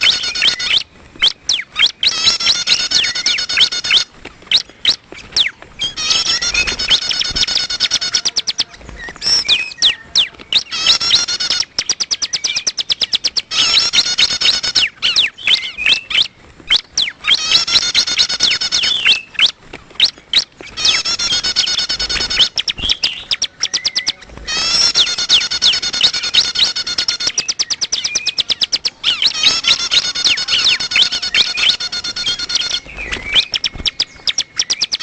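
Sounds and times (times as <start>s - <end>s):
bird chattering trills: 0.0s - 35.0s
bird sharp clicking notes: 0.0s - 35.0s.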